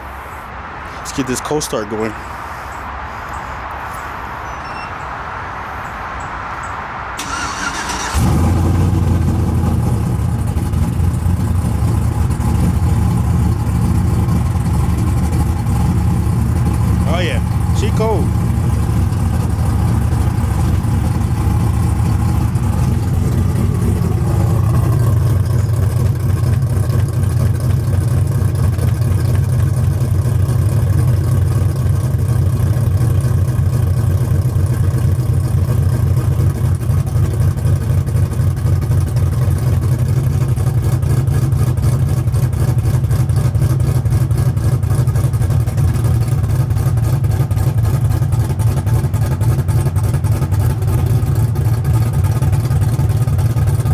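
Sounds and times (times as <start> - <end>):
truck engine idling: 0.0 - 53.9.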